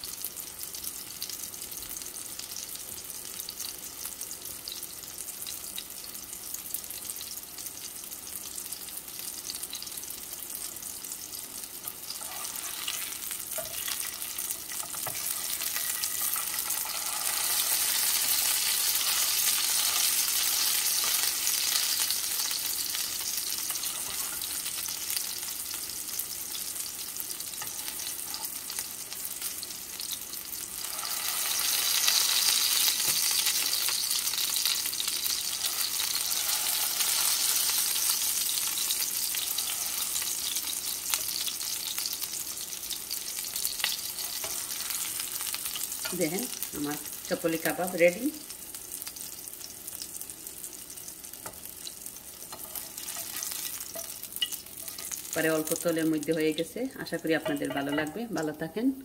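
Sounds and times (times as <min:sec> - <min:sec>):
kebabs sizzling in a frying pan: 0:00.0 - 0:59.0.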